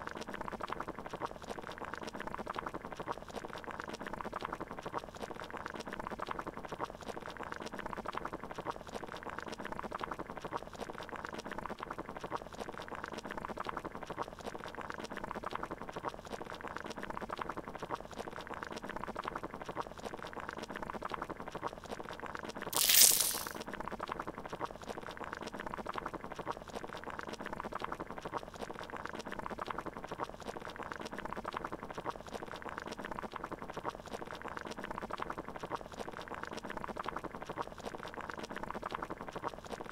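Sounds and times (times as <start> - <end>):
water boiling in a pot: 0.0 - 39.9.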